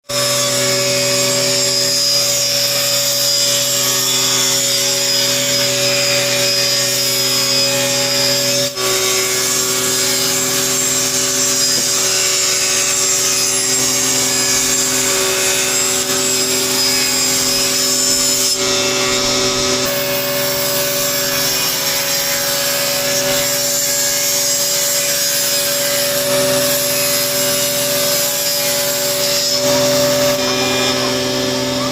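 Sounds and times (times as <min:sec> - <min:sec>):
saw blade cutting wood: 0:00.0 - 0:31.9
table saw motor whine: 0:00.0 - 0:31.9.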